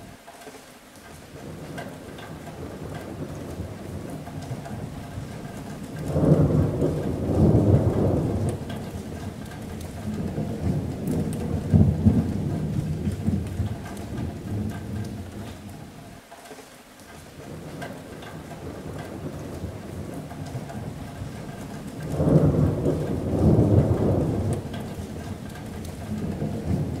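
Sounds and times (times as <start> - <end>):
rain on a metal roof: 0.0 - 27.0
thunder rumbling: 1.4 - 16.1, 17.4 - 27.0.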